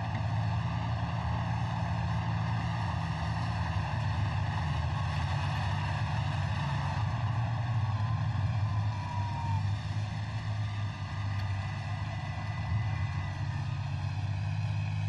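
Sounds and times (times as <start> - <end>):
tracked vehicle engine droning: 0.0 - 15.0.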